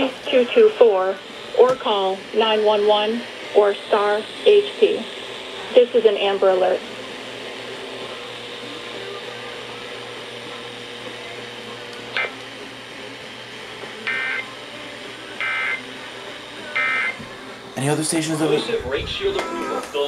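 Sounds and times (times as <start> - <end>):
radio hiss: 0.0 - 20.0.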